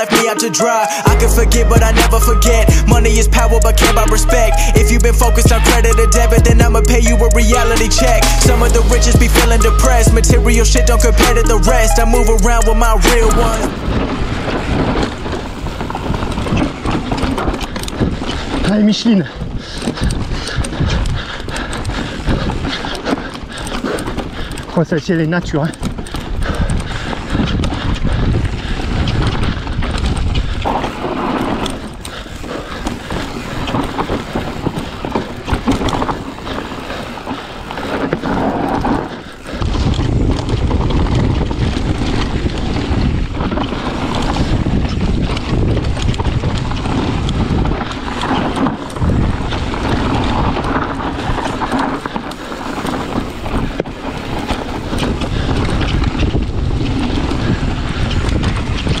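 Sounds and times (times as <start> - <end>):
bike rattling over stones: 0.0 - 59.0
wind on microphone: 1.0 - 59.0.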